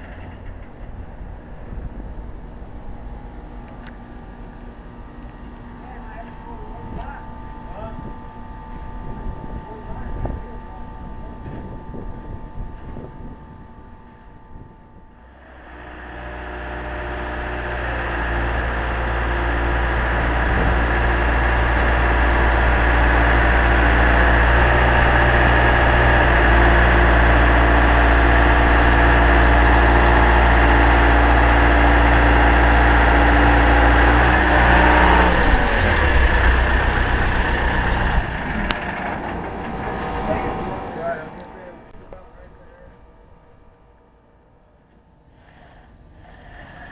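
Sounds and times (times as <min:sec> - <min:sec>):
large engine running: 0:00.0 - 0:43.9.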